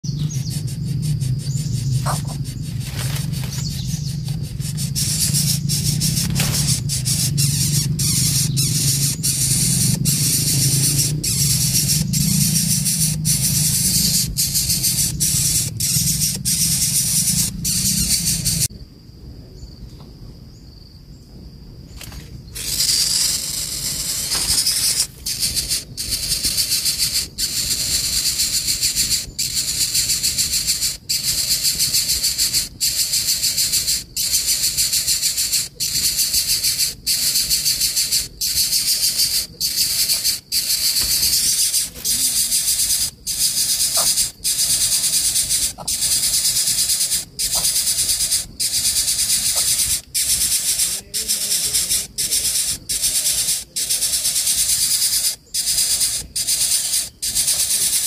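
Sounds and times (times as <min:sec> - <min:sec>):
bird nestling hissing: 0:00.0 - 0:18.7, 0:22.0 - 0:58.0.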